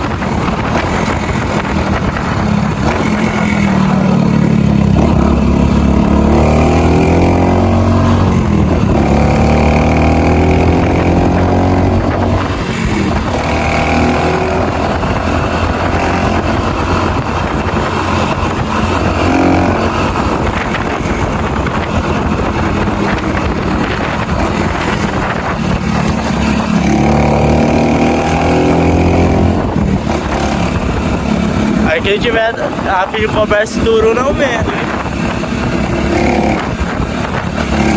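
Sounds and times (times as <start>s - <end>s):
small motorcycle engine revving: 0.0s - 37.9s.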